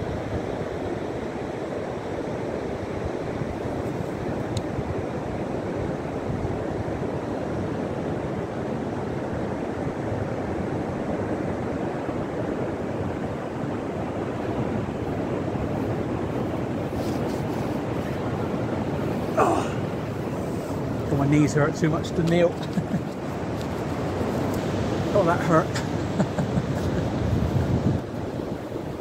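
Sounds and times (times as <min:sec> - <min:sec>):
surf washing over wet sand: 0:00.0 - 0:29.0.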